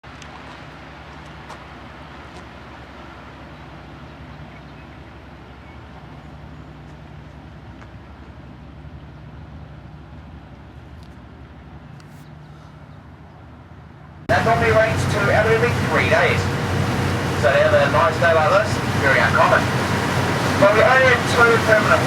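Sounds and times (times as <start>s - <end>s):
boat engine running: 0.0s - 22.0s
wind and water hiss: 0.0s - 22.0s.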